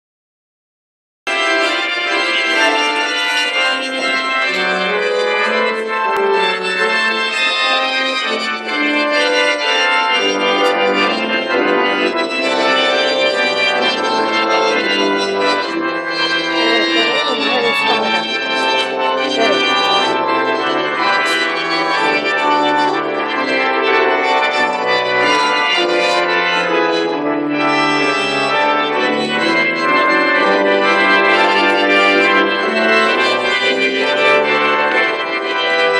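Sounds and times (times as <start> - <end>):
deep bass organ notes: 1.3 - 35.9
organ playing full chords: 1.3 - 35.9.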